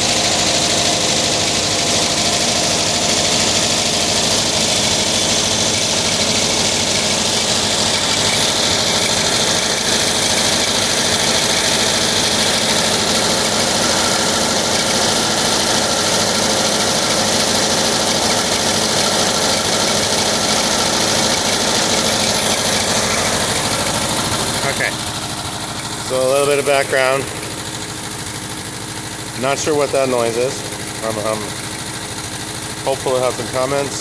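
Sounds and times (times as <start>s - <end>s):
engine running steadily: 0.0s - 34.0s
fan clanking against housing: 0.0s - 34.0s.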